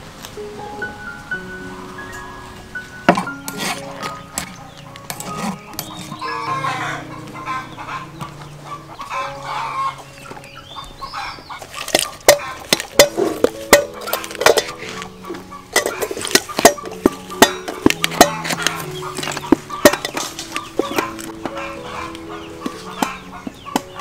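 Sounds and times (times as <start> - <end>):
soft background music: 0.0 - 24.0
chickens clucking: 1.7 - 24.0.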